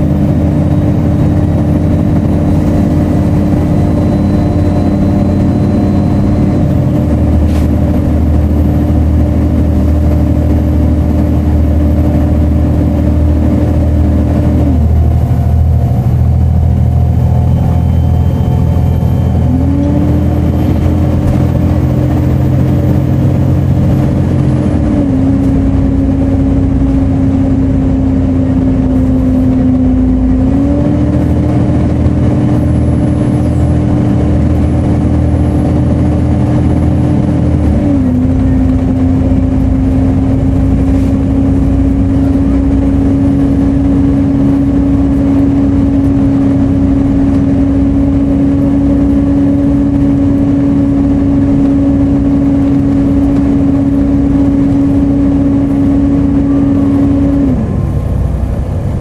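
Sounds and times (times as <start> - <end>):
bus cooling fan whine: 0.0 - 59.0
diesel engine running: 0.0 - 59.0.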